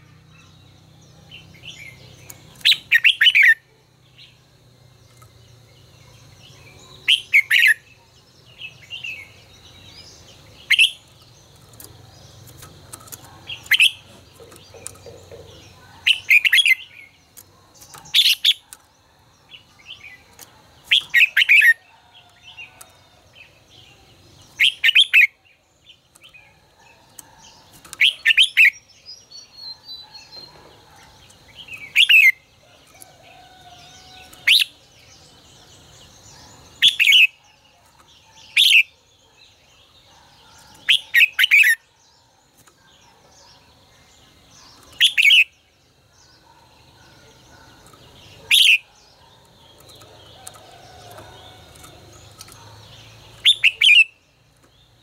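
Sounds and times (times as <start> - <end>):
bird singing sweeping phrases: 0.0 - 55.0.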